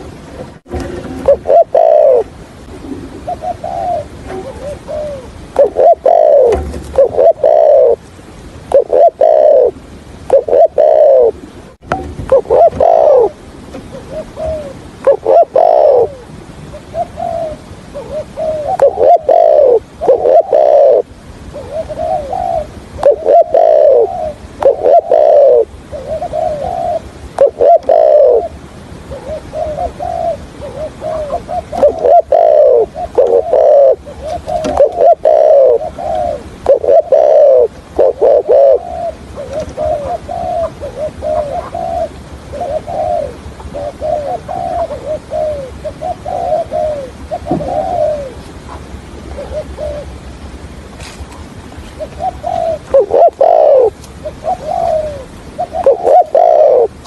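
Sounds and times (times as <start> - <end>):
dove cooing: 0.8 - 8.0, 8.7 - 50.3, 51.0 - 57.0.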